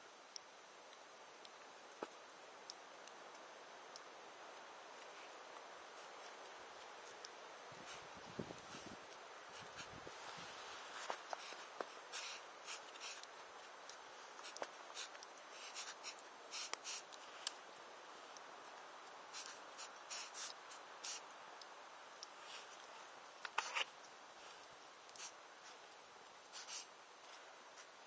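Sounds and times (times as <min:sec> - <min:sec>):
campfire crackling: 0:00.0 - 0:28.0
faint steady hiss: 0:00.0 - 0:28.0.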